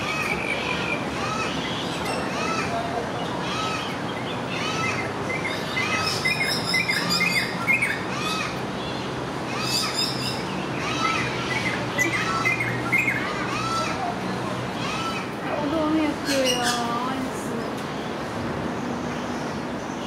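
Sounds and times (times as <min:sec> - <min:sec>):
wild birds chirping: 0:00.0 - 0:20.0.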